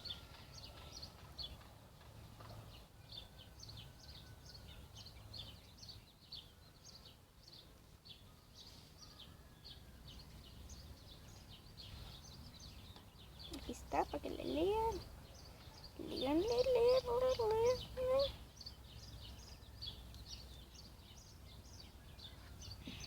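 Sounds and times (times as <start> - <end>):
birds chirping: 2.4 - 23.0.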